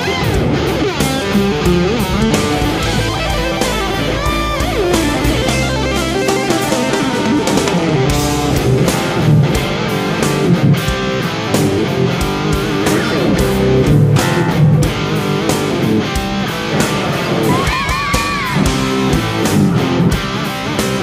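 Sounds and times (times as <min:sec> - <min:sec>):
bass guitar: 0:00.0 - 0:21.0
distorted electric guitar: 0:00.0 - 0:21.0
drums: 0:00.0 - 0:21.0.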